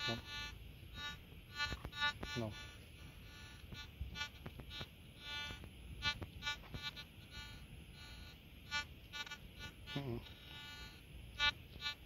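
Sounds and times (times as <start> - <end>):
metal detector beeps: 0.0 - 12.0.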